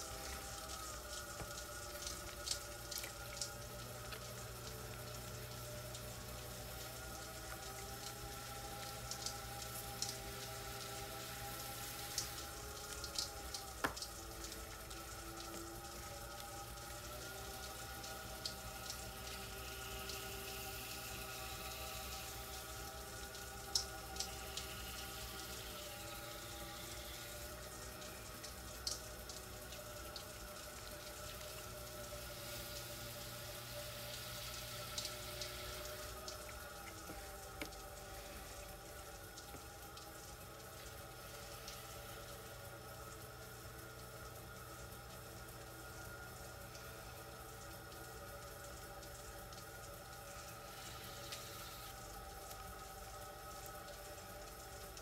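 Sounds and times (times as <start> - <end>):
potter's wheel humming: 0.0 - 55.0.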